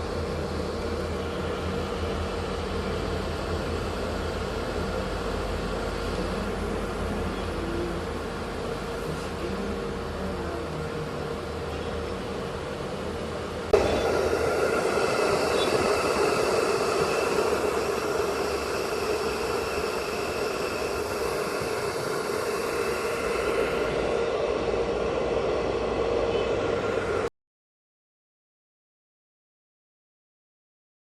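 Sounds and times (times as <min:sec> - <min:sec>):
computer cooling fan whirring: 0:00.0 - 0:27.3.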